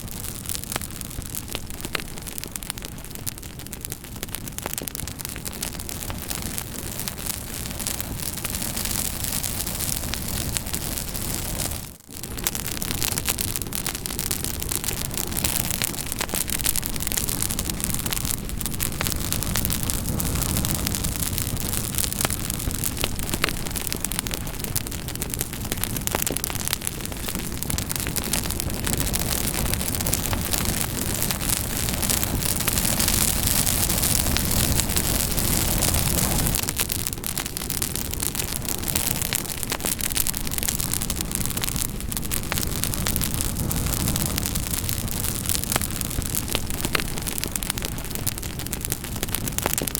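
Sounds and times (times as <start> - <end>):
campfire crackling and hissing: 0.0 - 49.9.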